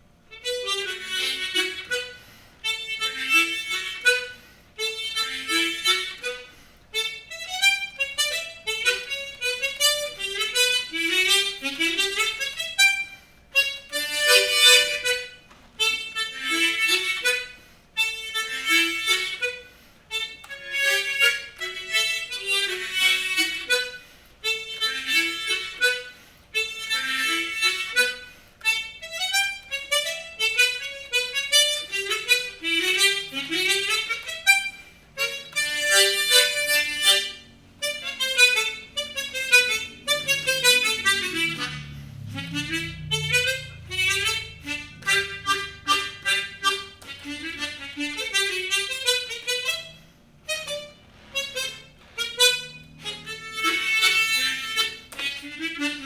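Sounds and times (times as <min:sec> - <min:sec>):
harmonica melody: 0:00.0 - 0:56.0.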